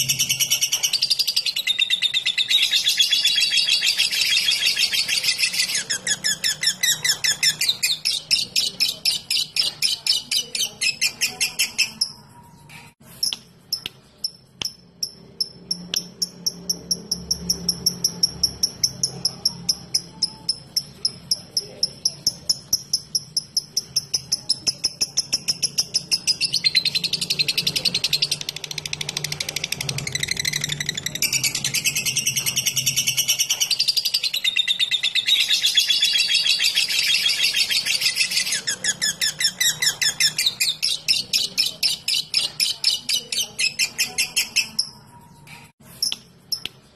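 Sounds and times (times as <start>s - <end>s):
bird chattering trill: 0.0s - 12.3s, 13.2s - 46.7s.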